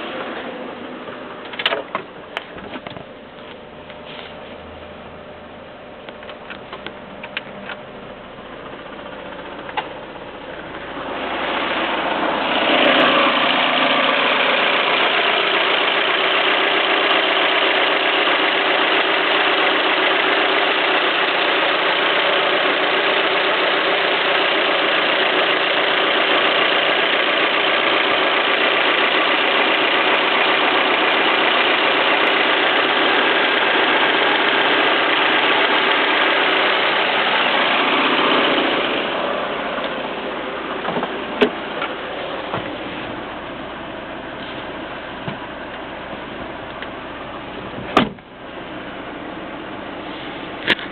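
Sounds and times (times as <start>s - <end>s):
car engine starting and idling: 0.0s - 50.9s.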